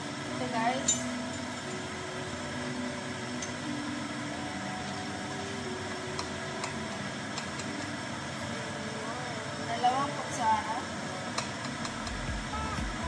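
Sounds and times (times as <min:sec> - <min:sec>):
household machine humming: 0:00.0 - 0:13.0.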